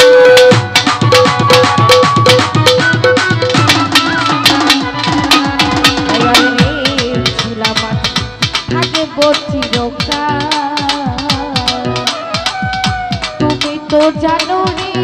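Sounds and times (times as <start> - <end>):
hand drums playing fast: 0.0 - 15.0
held melody notes: 0.0 - 15.0.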